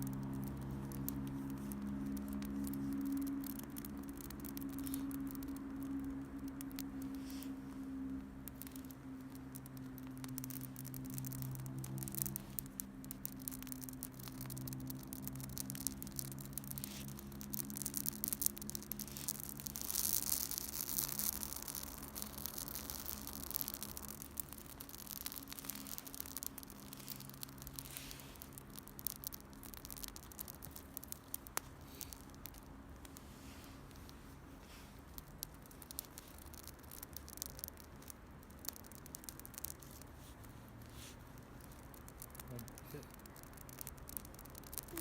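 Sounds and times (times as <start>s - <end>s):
campfire crackling and popping: 0.0s - 45.0s
faint low hum: 0.0s - 45.0s.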